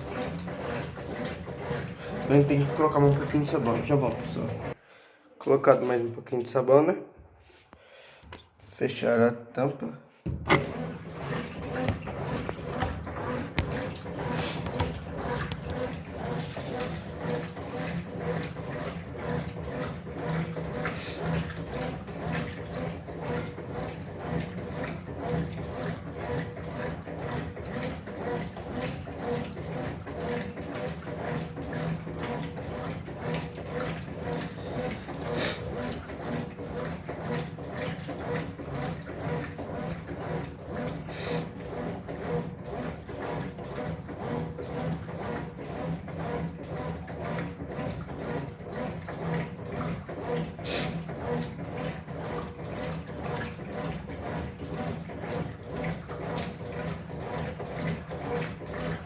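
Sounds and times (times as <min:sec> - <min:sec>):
washing machine agitating: 0:00.0 - 0:09.2, 0:10.2 - 0:59.0.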